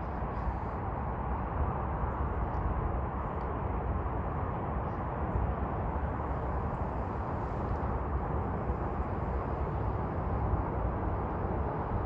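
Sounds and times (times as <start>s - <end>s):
outdoor rumble and rush: 0.0s - 12.0s.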